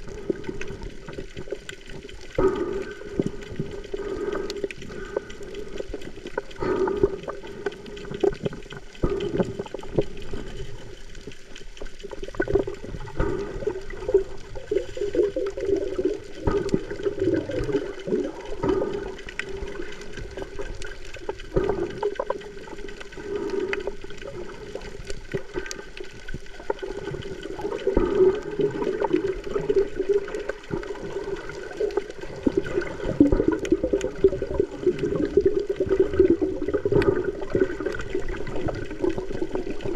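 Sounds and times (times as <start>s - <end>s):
crackling: 0.0s - 39.9s
water sloshing and gurgling: 0.0s - 39.9s.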